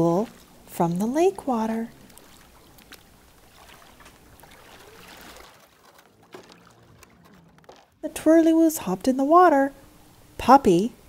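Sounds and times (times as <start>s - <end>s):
water sloshing and trickling: 0.0s - 9.6s.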